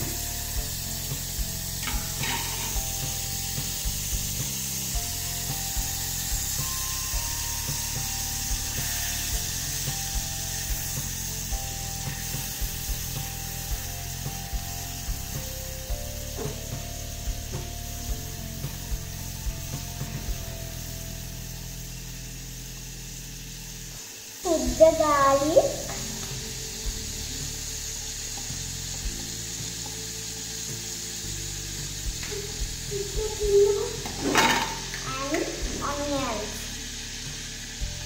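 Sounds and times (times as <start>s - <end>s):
background music with beat: 0.0s - 21.5s, 24.4s - 35.8s
butter sizzling in saucepan: 0.0s - 38.0s.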